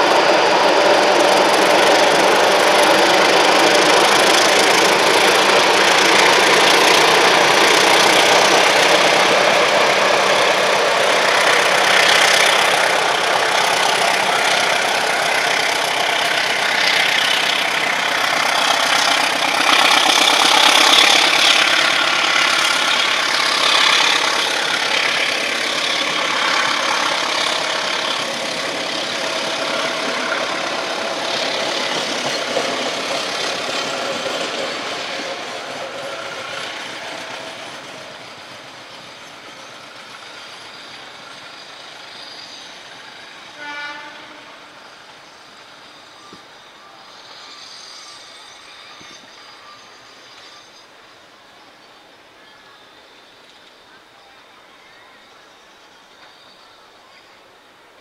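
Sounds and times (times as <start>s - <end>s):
diesel locomotive running: 0.0s - 58.0s
rumble of train carriages: 0.0s - 58.0s.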